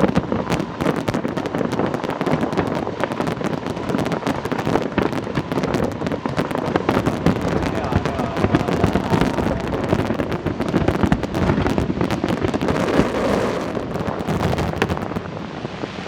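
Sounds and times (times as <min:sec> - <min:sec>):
fireworks crackling: 0:00.0 - 0:15.8
sharp firework reports: 0:00.0 - 0:15.8.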